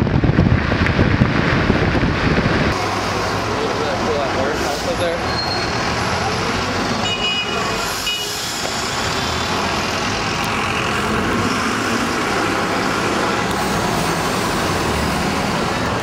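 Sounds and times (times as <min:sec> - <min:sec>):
city bus: 0:00.0 - 0:16.0
city street traffic: 0:00.0 - 0:16.0.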